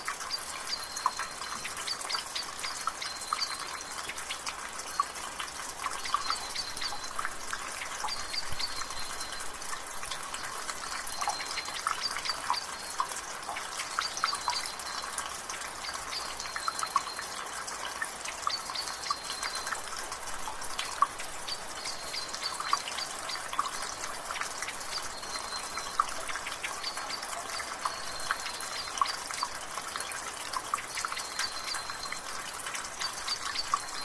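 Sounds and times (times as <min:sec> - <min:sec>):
songbird singing: 0:00.0 - 0:05.2, 0:05.8 - 0:15.2, 0:15.8 - 0:17.3, 0:18.3 - 0:34.0
light rain hiss: 0:00.0 - 0:34.0
water dripping from gutter: 0:00.0 - 0:34.0.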